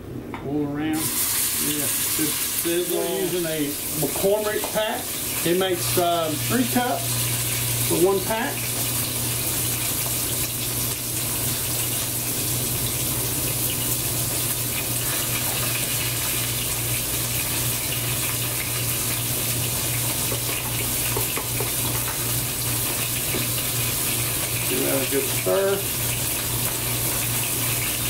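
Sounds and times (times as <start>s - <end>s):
meat searing in oil: 0.9s - 28.0s.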